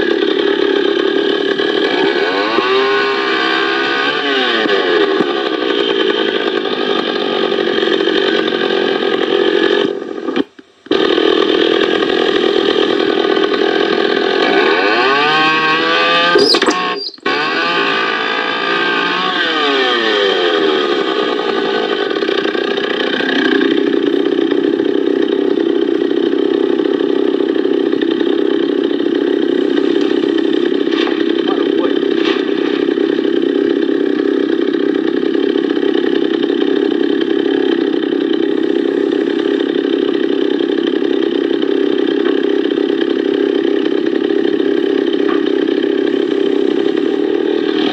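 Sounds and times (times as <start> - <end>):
chainsaw engine revving: 0.0 - 47.9.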